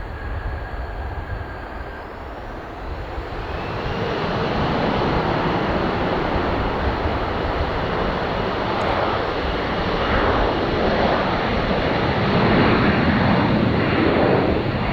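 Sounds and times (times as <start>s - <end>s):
jet engine rushing: 0.0s - 14.9s.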